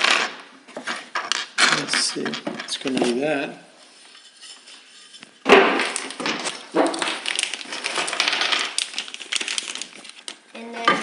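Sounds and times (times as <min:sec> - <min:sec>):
small hard parts clattering: 0:00.0 - 0:03.3, 0:04.2 - 0:11.0.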